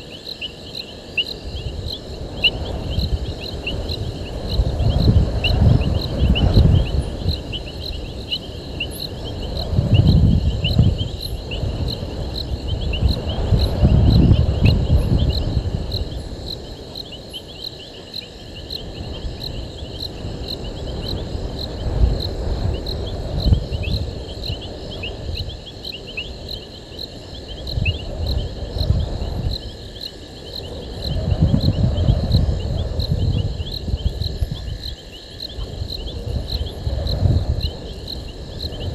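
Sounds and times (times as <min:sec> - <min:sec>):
crickets chirping: 0:00.0 - 0:38.9
insects calling: 0:00.0 - 0:38.9.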